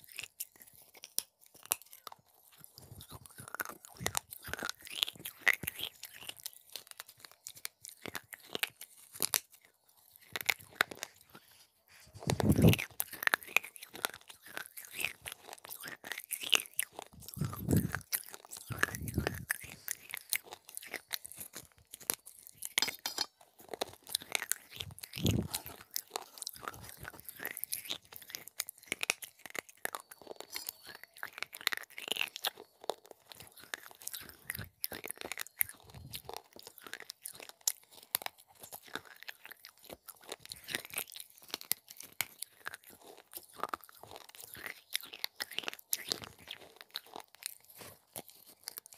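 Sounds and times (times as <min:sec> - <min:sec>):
crunching and chewing clay shards: 0:00.0 - 0:48.9.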